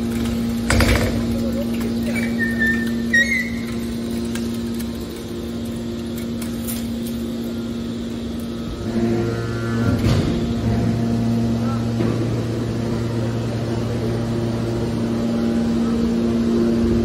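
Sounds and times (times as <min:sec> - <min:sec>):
deep loud hum: 0:00.0 - 0:17.0
hydraulic power unit humming: 0:00.0 - 0:17.0.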